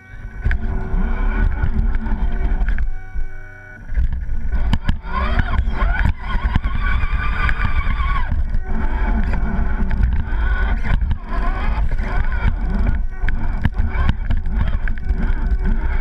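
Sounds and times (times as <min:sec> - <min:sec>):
electric motor and gears whining: 0:00.0 - 0:16.0
heavy low rumble: 0:00.0 - 0:16.0.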